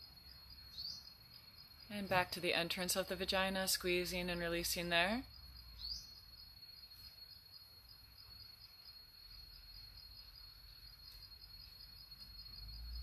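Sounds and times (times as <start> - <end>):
faint insect chirping: 0.0 - 13.0.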